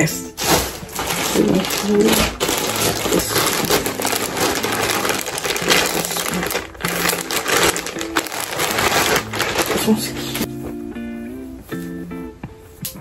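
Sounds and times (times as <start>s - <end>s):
plastic bag crinkling: 0.3s - 10.8s.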